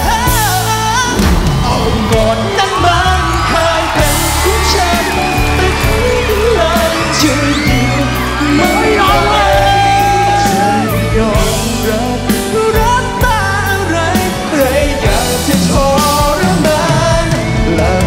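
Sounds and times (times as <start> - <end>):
full band backing with bass: 0.0 - 18.0
man singing: 0.0 - 18.0.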